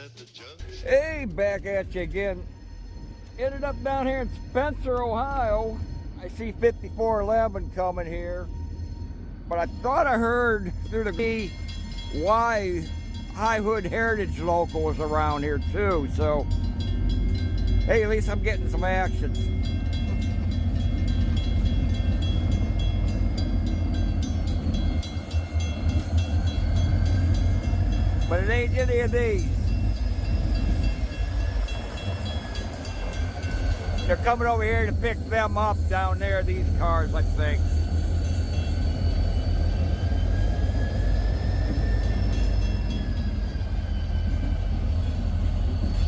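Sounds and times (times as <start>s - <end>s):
freight locomotive rumbling: 0.0s - 46.0s
metallic bell ringing: 2.2s - 44.4s.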